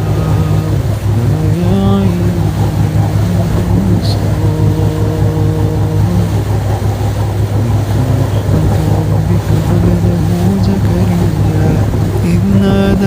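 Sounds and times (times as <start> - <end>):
man chanting: 0.0 - 6.6, 7.6 - 13.0
low rumbling noise: 0.0 - 13.0.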